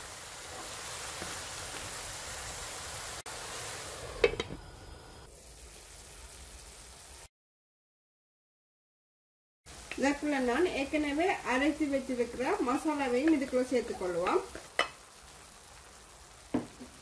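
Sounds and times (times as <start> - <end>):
mushrooms sizzling in a pan: 0.0 - 7.3, 9.7 - 17.0.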